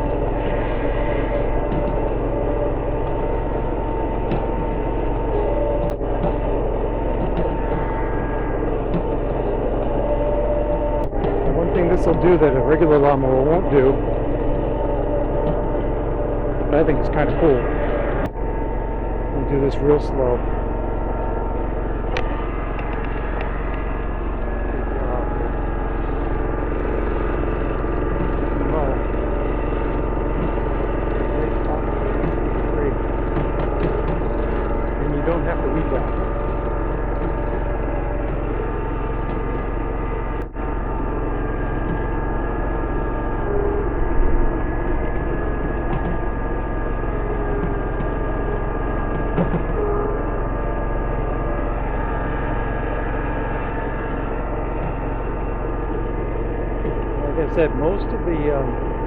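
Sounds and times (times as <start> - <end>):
riding mower engine running: 0.0 - 59.0.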